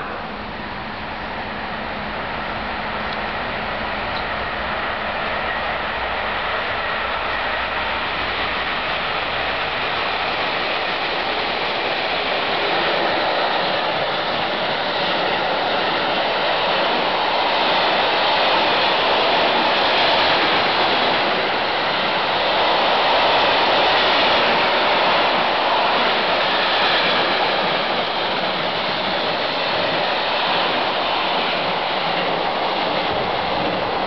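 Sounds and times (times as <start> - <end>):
freight train wheels rushing on rails: 0.0 - 34.0.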